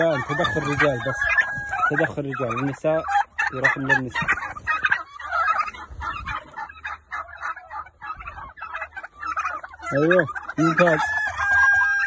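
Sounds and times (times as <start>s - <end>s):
turkeys gobbling: 0.0s - 12.0s.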